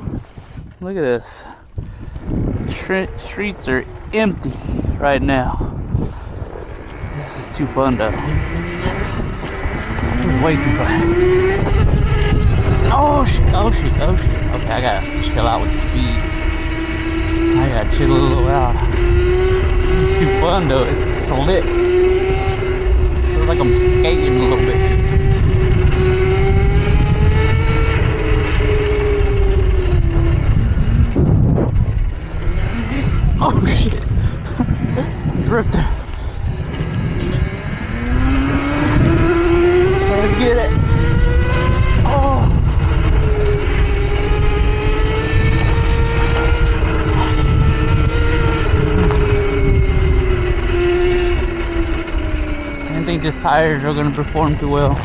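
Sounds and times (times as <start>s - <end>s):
loud rough low rumble: 0.0s - 55.0s
electric minibike motor whining: 1.7s - 55.0s.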